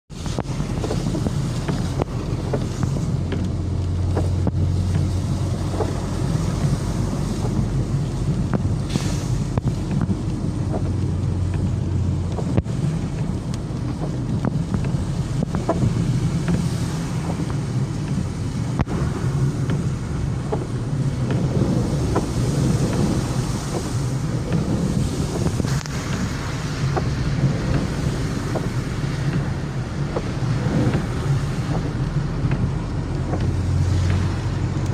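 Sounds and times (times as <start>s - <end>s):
vehicle rumbling along road: 0.1s - 34.9s
wind buffeting microphone: 0.1s - 34.9s.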